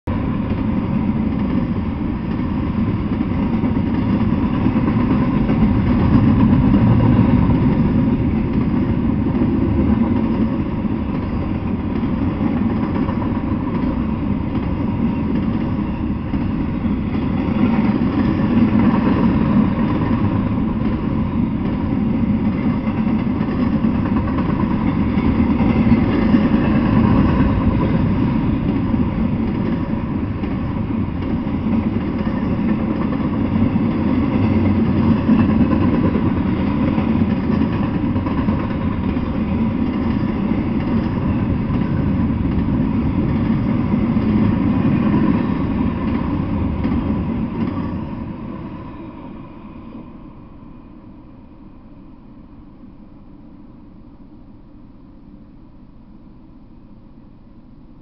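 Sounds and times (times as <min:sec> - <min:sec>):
freight train wheels rumbling: 0:00.0 - 0:54.8.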